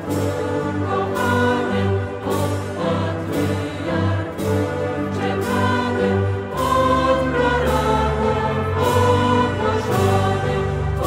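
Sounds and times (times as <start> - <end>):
choir singing a carol: 0.0 - 11.0
instrumental accompaniment: 0.0 - 11.0.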